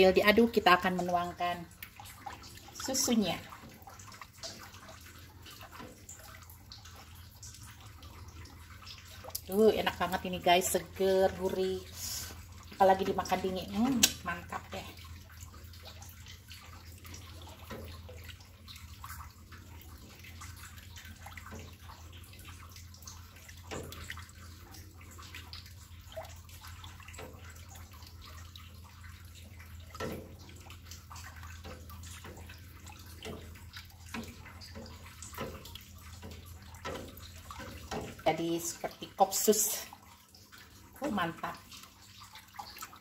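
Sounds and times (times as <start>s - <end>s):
spatula sloshing and scraping pot: 0.0s - 43.0s.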